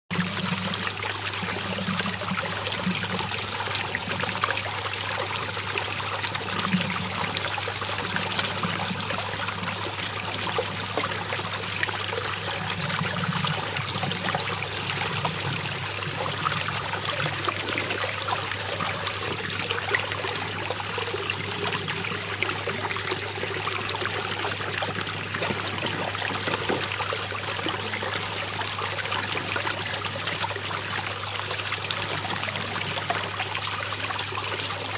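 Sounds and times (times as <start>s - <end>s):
water swirling and draining: 0.1s - 34.9s.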